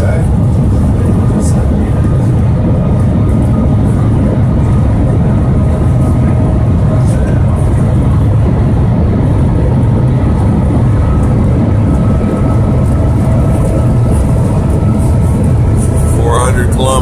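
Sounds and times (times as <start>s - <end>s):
faint steady whine: 0.0s - 17.0s
train low rumble: 0.0s - 17.0s
rush of air: 0.1s - 17.0s.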